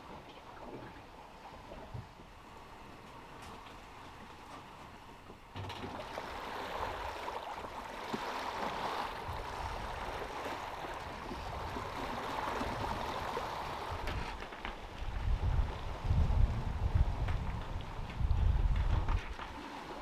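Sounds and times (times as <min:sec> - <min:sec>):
water splashing alongside boat: 0:00.0 - 0:20.0.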